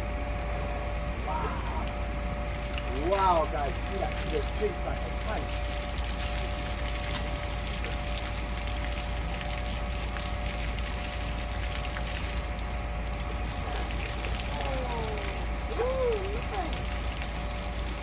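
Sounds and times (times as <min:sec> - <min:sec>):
constant hum: 0:00.0 - 0:18.0
running water rushing: 0:01.2 - 0:18.0.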